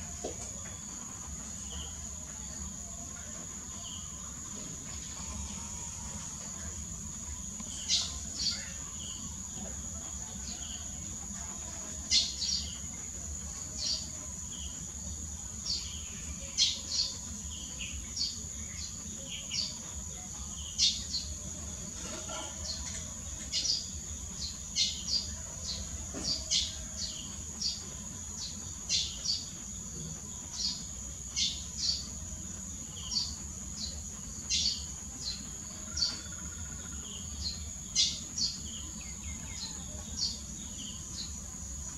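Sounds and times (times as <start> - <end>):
small birds chirping: 0.4 - 41.9.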